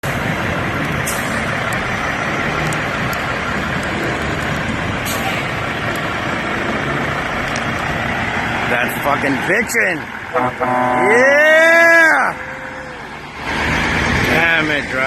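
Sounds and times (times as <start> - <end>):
truck engines running: 0.0 - 15.0.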